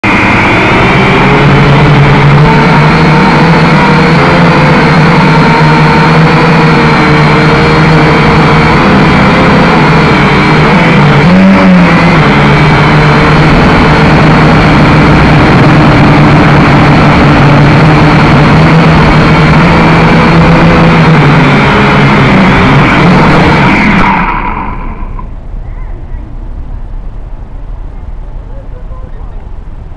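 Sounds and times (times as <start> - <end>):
drone propellers whining: 0.0 - 29.9.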